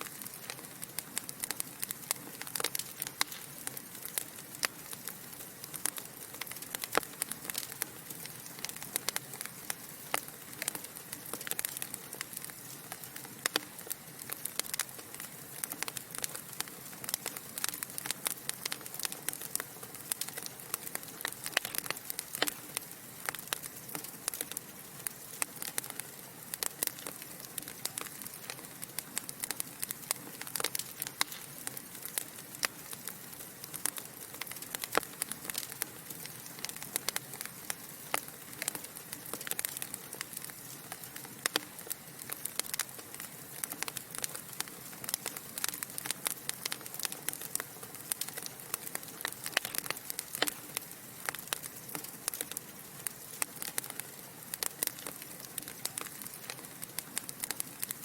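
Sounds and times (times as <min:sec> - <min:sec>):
wood logs crackling in fireplace: 0:00.0 - 0:58.0.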